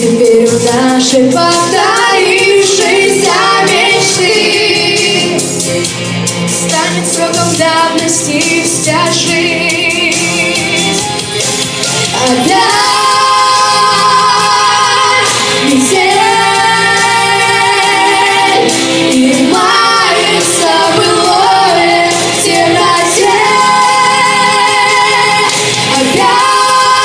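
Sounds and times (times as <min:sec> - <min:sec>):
woman singing pop song: 0:00.0 - 0:05.6, 0:06.6 - 0:11.0, 0:12.1 - 0:27.0
backing track: 0:00.0 - 0:27.0.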